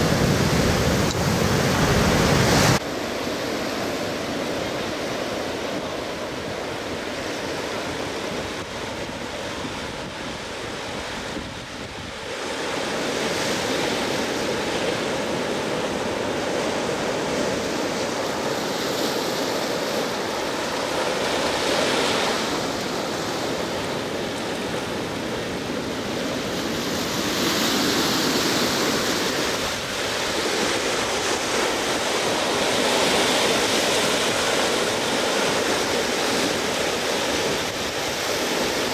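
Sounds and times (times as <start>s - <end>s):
ocean waves breaking: 0.0s - 38.9s
wind: 0.0s - 38.9s.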